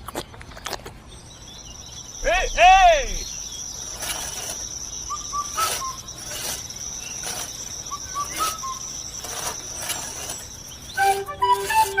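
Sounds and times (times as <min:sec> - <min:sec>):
bird singing: 0:01.0 - 0:12.0
crickets droning: 0:01.1 - 0:12.0.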